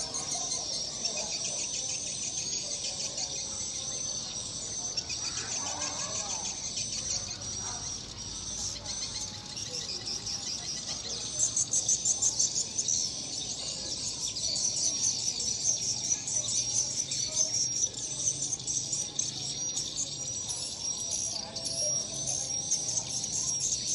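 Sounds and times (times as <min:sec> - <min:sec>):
swiftlets twittering: 0:00.0 - 0:23.9.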